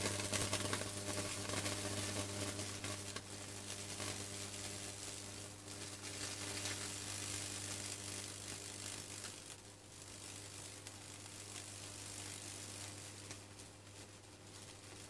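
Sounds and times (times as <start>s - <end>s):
electric arc crackling and sizzling: 0.0s - 15.0s
low electrical hum: 0.0s - 15.0s.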